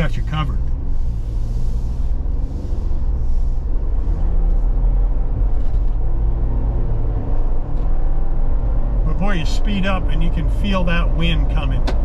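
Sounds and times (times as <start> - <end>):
car engine running: 0.0 - 12.0
road noise rumble: 0.0 - 12.0.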